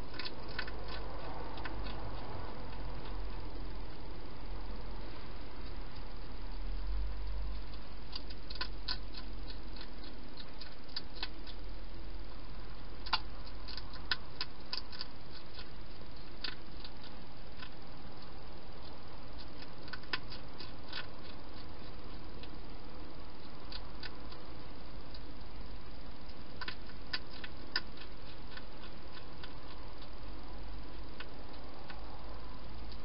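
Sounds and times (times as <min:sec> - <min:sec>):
hedgehog crunching food: 0:00.0 - 0:33.0.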